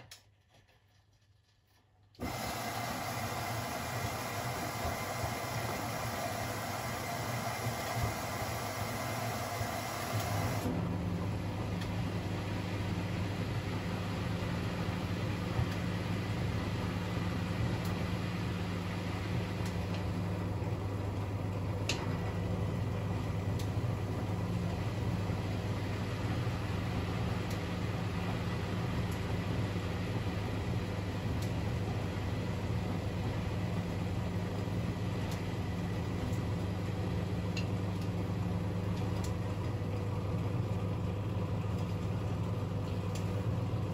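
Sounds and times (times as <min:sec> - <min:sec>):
washing machine humming: 0:02.2 - 0:43.9.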